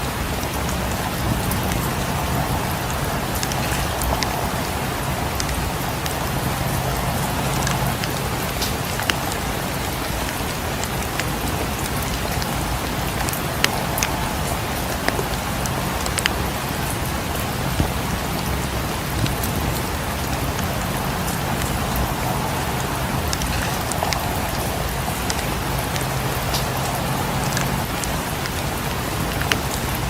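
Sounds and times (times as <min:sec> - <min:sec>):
steady rain falling: 0:00.0 - 0:30.0
wood fire crackles and pops: 0:00.4 - 0:30.0.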